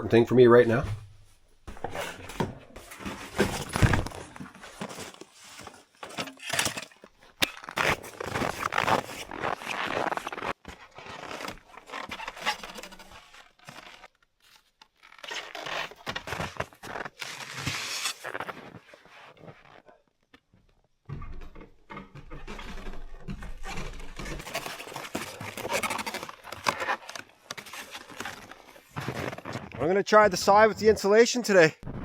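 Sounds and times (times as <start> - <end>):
scraping and rustling handling: 0.7 - 19.8, 22.4 - 30.9.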